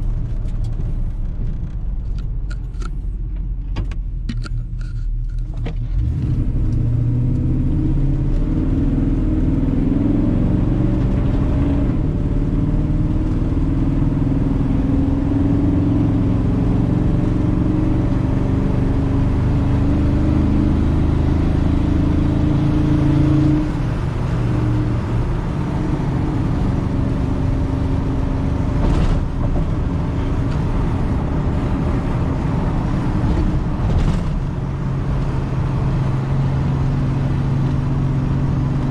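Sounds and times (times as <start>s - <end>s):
car engine running: 0.0s - 6.9s, 10.4s - 38.9s.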